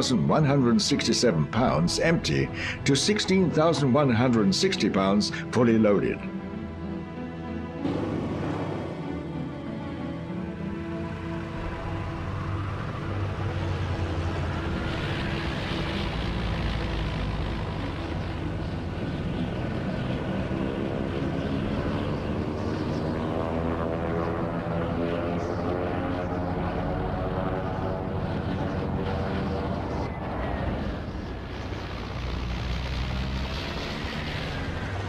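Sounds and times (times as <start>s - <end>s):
propeller plane engine drone: 0.0s - 35.0s.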